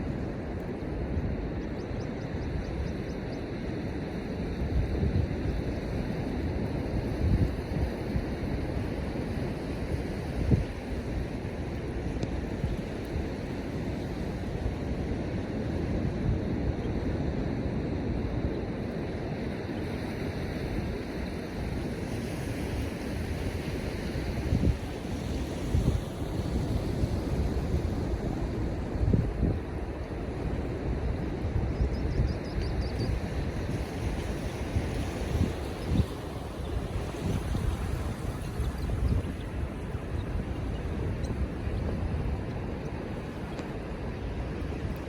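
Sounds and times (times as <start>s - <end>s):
surf washing: 3.5s - 45.0s
wind buffeting microphone: 3.6s - 15.1s, 20.2s - 45.0s.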